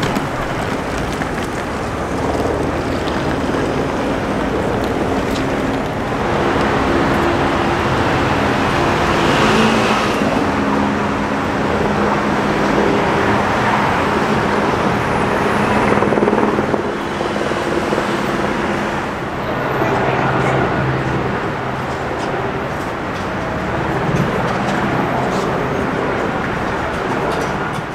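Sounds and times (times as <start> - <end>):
road traffic passing: 0.0 - 27.9.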